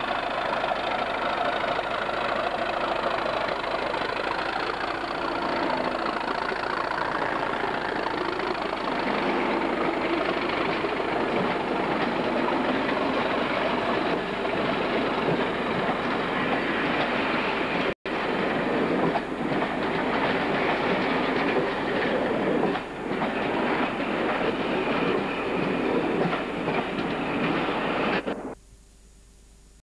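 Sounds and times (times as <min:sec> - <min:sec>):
train wheels clacking over rail joints: 0:00.0 - 0:28.3
diesel locomotive engine running: 0:00.0 - 0:28.6.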